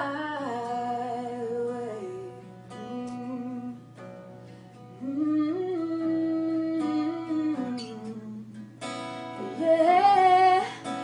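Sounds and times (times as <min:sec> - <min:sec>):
woman singing wordless notes: 0:00.0 - 0:04.1, 0:05.0 - 0:11.0
strummed acoustic guitar: 0:00.0 - 0:11.0.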